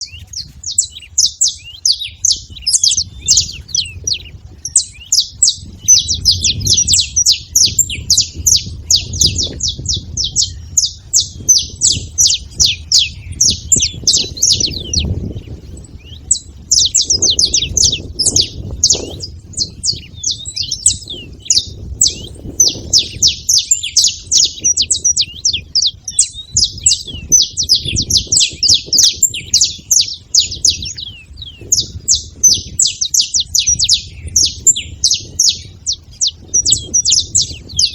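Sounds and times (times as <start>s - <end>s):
finches chirping: 0.0s - 37.9s.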